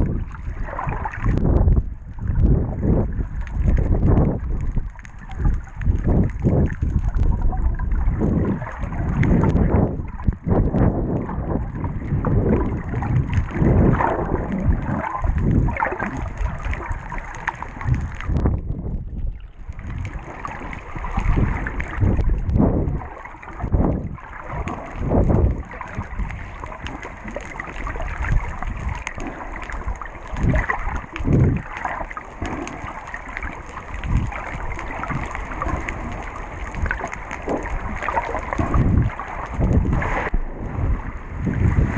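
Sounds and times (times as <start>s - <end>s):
muffled water sloshing and bubbling: 0.0s - 41.9s.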